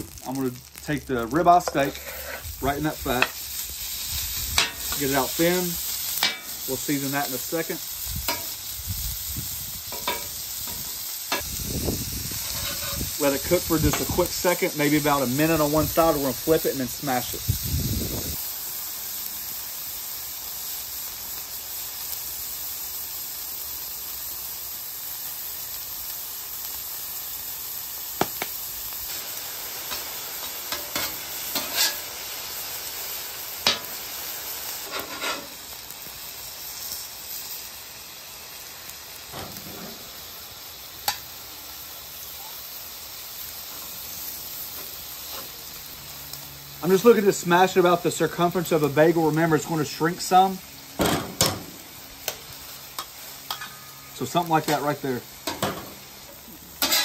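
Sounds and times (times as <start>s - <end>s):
meat sizzling on griddle: 0.0s - 57.0s.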